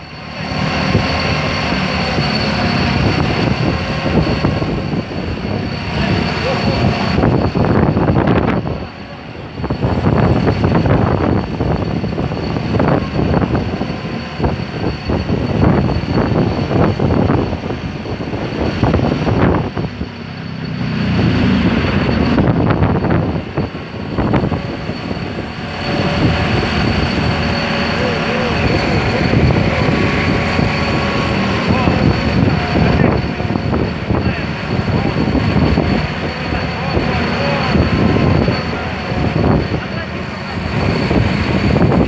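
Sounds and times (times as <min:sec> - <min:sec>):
pile hammer drone: 0:00.0 - 0:42.0.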